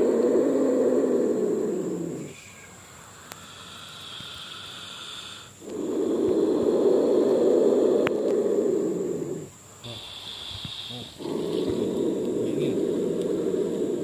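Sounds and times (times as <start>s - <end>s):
snake growling hiss: 0.0s - 14.0s
snake hissing: 0.0s - 14.0s.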